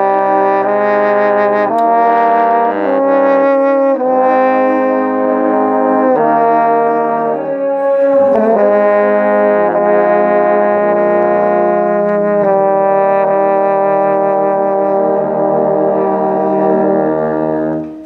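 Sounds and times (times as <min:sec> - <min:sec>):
two trombones playing a hymn: 0:00.0 - 0:18.0.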